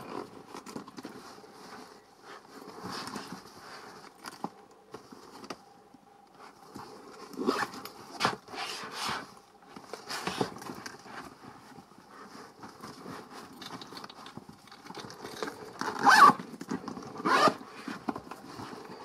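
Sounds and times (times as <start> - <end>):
rummaging in leather bag: 0.0 - 19.0.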